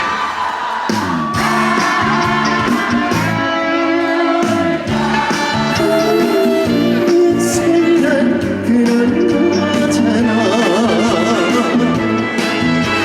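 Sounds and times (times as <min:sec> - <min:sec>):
live trot band playing: 0:01.3 - 0:13.0.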